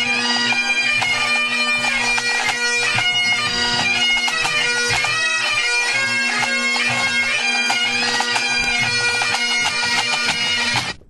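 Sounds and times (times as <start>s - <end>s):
bagpipe chanter melody: 0.0s - 11.0s
bagpipe drones: 0.0s - 11.0s.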